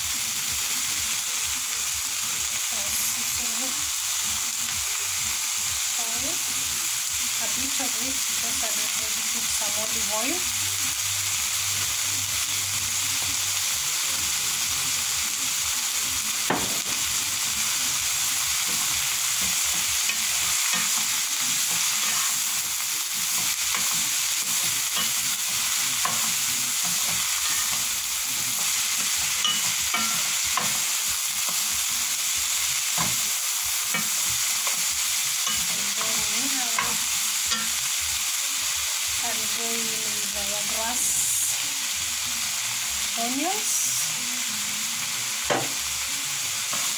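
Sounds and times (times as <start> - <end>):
vegetables sizzling in oil: 0.0 - 46.9.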